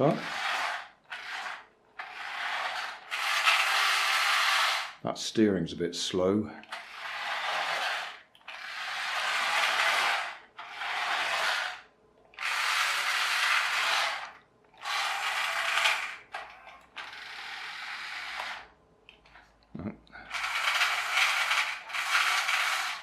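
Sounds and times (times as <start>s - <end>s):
toy car motor whirring: 0.0s - 5.0s, 6.6s - 18.7s, 20.3s - 23.0s.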